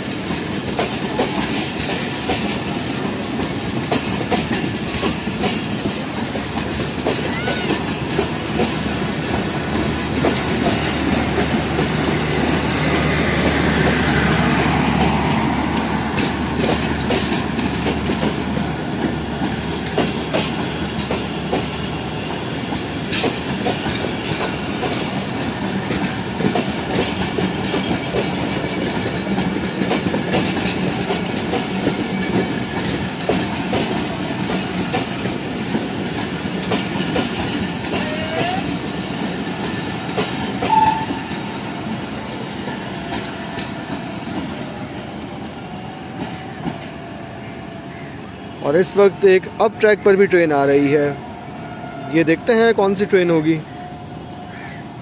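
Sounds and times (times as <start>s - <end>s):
train wheels clattering over rail joints: 0.0s - 45.1s.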